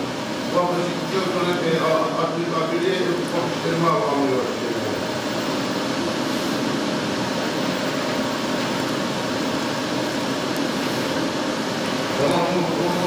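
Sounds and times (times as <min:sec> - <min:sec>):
inkjet printer whirring: 0:00.0 - 0:13.0.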